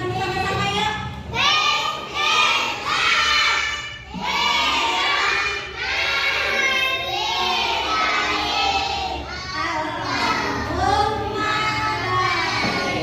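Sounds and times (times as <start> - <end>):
children singing together: 1.3 - 13.0.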